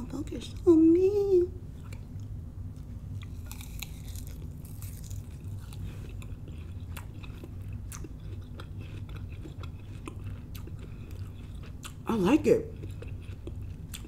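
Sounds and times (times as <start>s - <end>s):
steady low hum: 0.0s - 14.0s
person chewing crunchy food: 1.8s - 14.0s.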